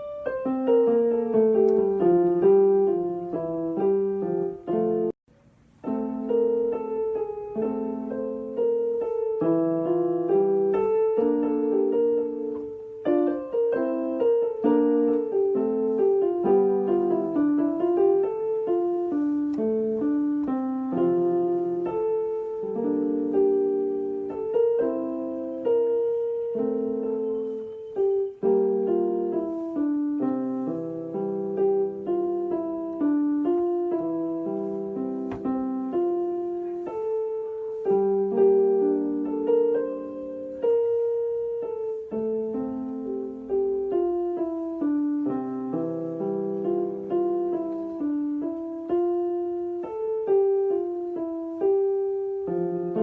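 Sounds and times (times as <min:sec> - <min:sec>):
gentle piano music: 0:00.0 - 0:53.0.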